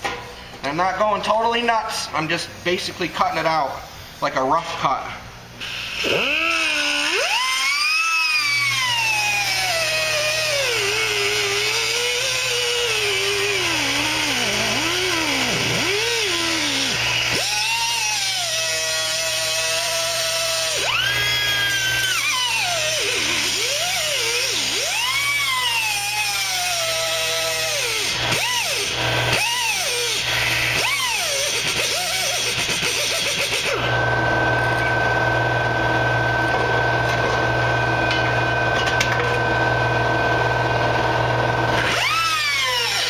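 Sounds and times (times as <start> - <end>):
cutoff wheel whining on metal: 5.6 - 43.0.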